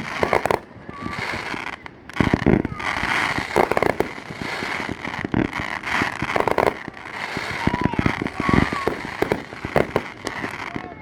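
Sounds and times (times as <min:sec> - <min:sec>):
firework bursts and booms: 0:00.0 - 0:11.0.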